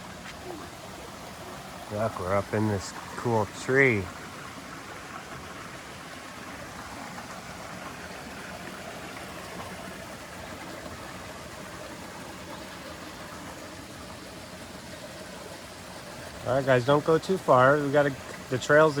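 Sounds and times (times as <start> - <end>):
stream spilling over waterfall: 0.0 - 19.0.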